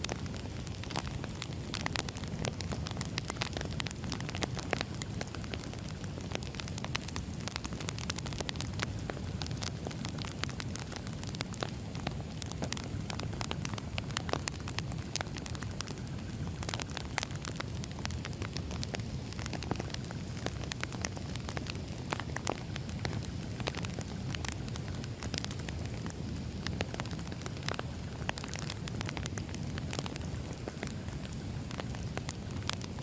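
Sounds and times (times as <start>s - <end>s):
firewood crackling and popping: 0.0s - 33.0s
low rumble of flames: 0.0s - 33.0s.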